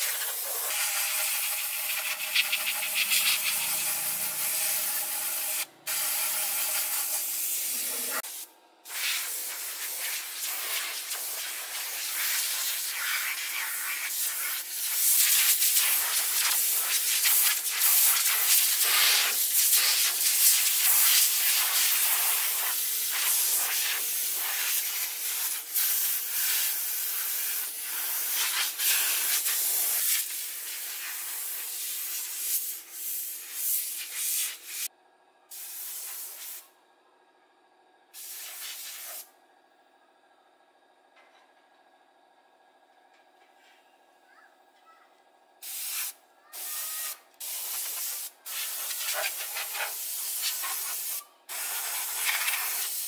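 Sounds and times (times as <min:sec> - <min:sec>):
paint spray gun hissing: 0:00.0 - 0:34.9, 0:35.5 - 0:36.7, 0:38.2 - 0:39.3, 0:45.6 - 0:53.0.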